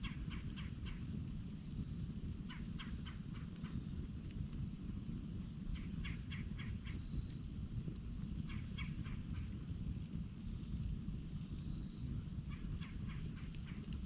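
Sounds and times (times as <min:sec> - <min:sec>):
campfire burning: 0:00.0 - 0:14.0.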